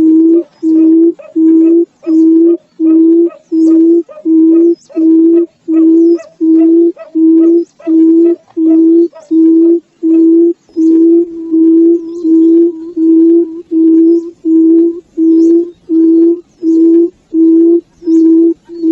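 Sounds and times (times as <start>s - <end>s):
bird booming hoot call: 0.0s - 18.9s.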